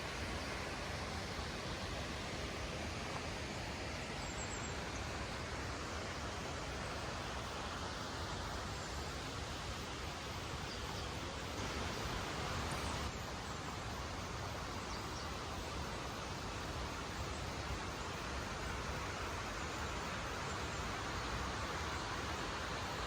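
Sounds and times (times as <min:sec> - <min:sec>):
even hiss: 0:00.0 - 0:23.0.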